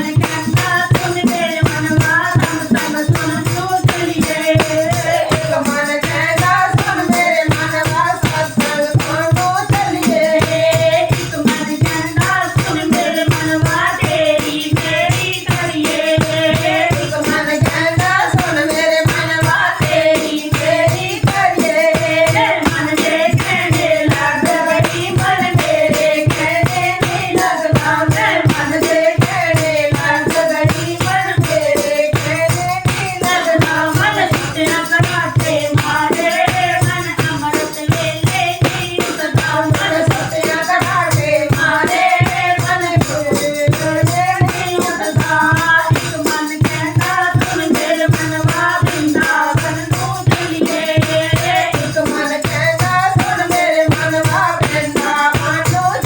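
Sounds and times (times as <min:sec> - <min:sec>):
jingling hand percussion: 0:00.0 - 0:56.0
steady drum beat: 0:00.0 - 0:56.0.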